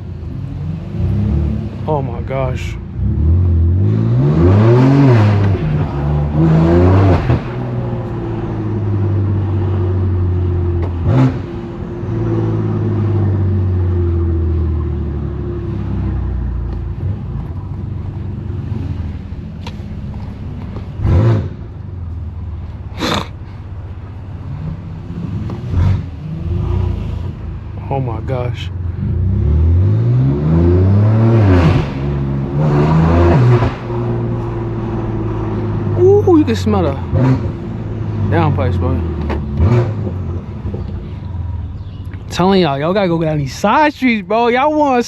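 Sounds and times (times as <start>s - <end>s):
car engine accelerating: 2.9s - 23.0s, 24.0s - 43.4s.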